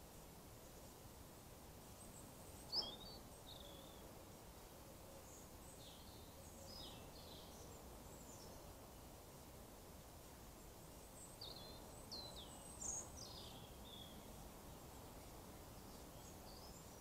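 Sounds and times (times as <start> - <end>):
low steady hiss: 0.0 - 17.0
small birds chirping: 1.8 - 9.2, 10.4 - 17.0.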